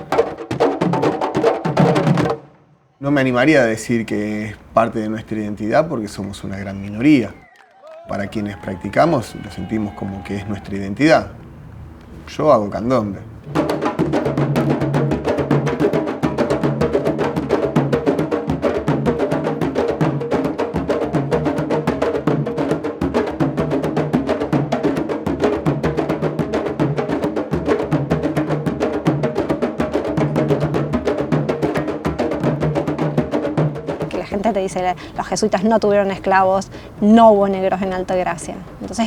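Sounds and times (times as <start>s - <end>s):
drum ensemble playing: 0.0s - 7.4s, 8.1s - 39.0s.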